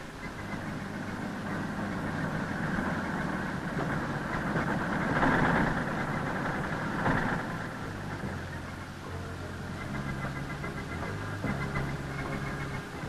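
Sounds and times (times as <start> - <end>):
engine rumble: 0.0 - 13.0
machinery clatter: 0.0 - 13.0.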